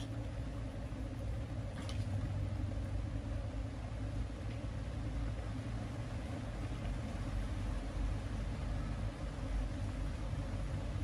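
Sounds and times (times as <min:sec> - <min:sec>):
light rain falling on a pond: 0:00.0 - 0:11.0.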